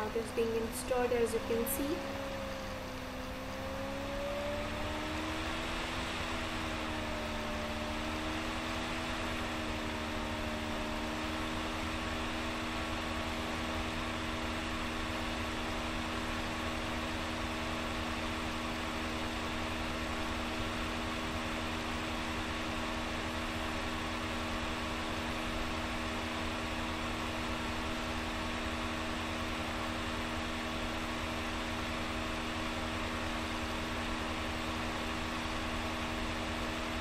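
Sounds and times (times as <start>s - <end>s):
fan humming: 0.0s - 37.0s.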